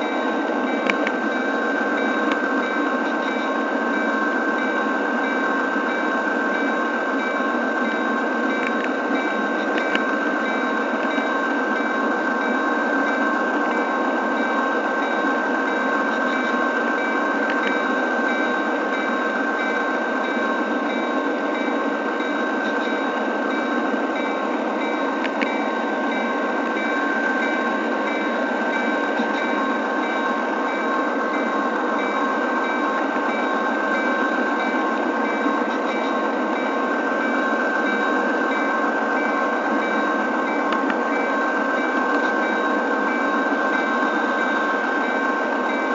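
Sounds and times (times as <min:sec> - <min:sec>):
constant high whine: 0:00.0 - 0:45.9
model train rolling: 0:00.0 - 0:45.9.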